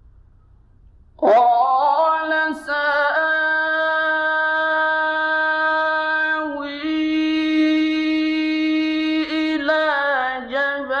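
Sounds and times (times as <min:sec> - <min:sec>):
man chanting recitation: 0:01.2 - 0:11.0.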